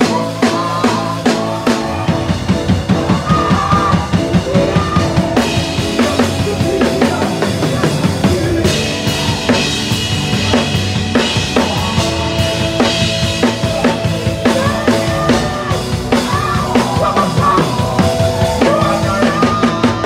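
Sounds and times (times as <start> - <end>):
band playing: 0.0 - 20.0
drum kit played with sticks: 0.0 - 20.0.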